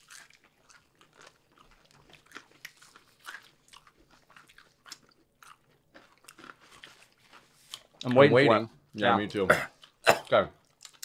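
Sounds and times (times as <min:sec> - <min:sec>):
chewing and crunching: 0:00.0 - 0:08.3, 0:09.3 - 0:11.0.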